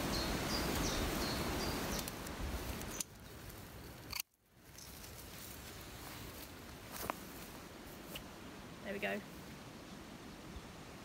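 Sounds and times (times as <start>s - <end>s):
rustling undergrowth: 0.0s - 11.0s.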